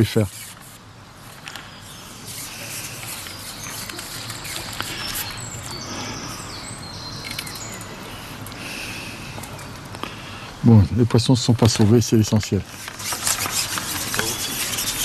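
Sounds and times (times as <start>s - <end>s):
birds singing: 0.0s - 15.0s
steady background hiss: 0.0s - 15.0s.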